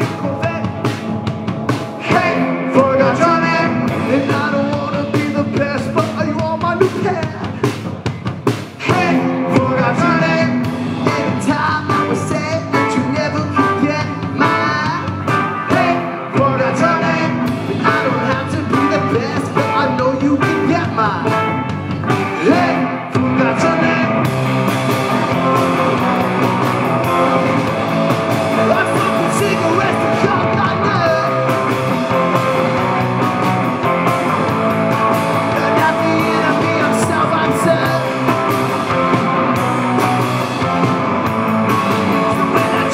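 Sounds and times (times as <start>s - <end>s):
loud rock band playing: 0.0s - 42.9s
person singing: 2.0s - 7.8s, 8.8s - 34.4s, 35.2s - 40.0s, 41.7s - 42.9s.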